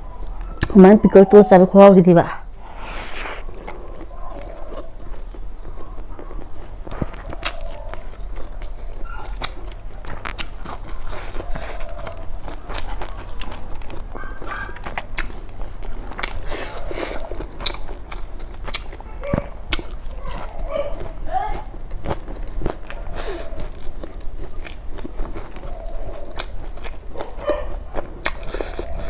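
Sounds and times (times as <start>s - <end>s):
person biting and chewing food: 2.6s - 29.0s.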